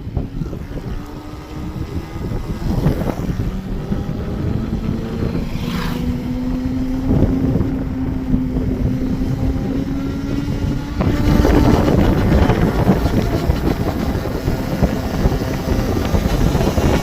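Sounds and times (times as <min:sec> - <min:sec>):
electric scooter motor whine: 0:00.0 - 0:17.0
low rumble: 0:00.0 - 0:17.0
wind noise: 0:00.0 - 0:17.0.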